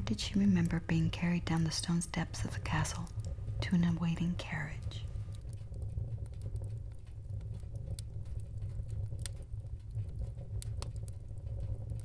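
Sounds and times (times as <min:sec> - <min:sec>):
steady low rumble: 0:00.0 - 0:12.0
light ticks: 0:01.5 - 0:12.0.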